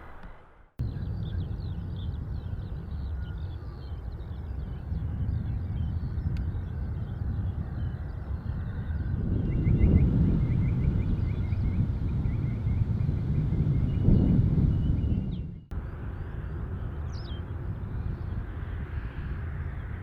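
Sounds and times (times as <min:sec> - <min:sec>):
steady low rumble: 0:00.0 - 0:20.0
small birds chirping: 0:00.8 - 0:20.0.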